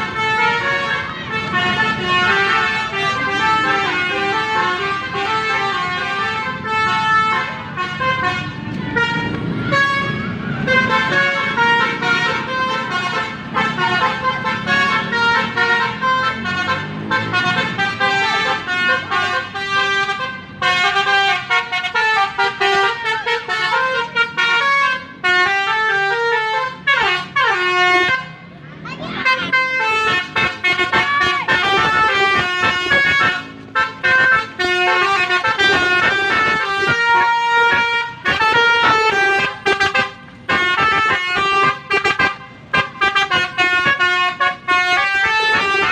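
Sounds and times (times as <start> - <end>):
bus musical horn melody: 0.0 - 45.9.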